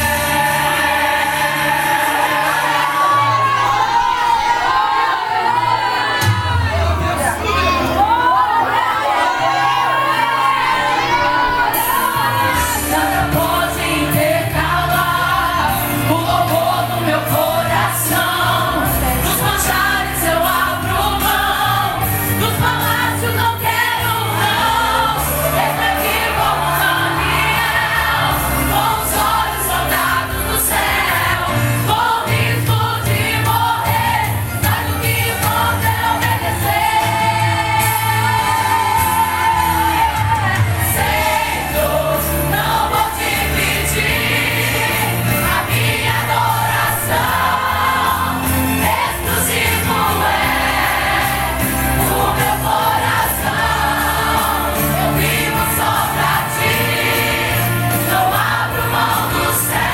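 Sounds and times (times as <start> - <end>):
band accompaniment: 0.0 - 59.9
choir singing worship song: 0.0 - 59.9.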